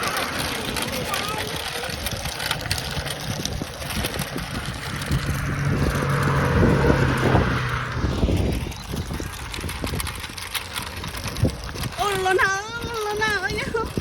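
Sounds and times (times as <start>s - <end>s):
motor vehicle passing by: 0.0s - 11.9s.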